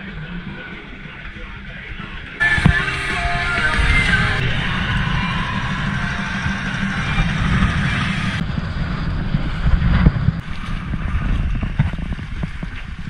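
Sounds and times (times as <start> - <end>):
water rushing along hulls: 0.0 - 13.0
wind buffeting microphone: 0.0 - 13.0.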